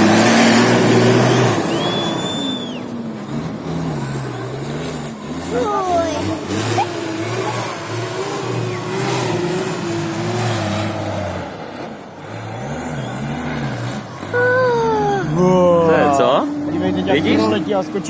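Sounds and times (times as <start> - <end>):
truck engine revving: 0.0 - 17.6.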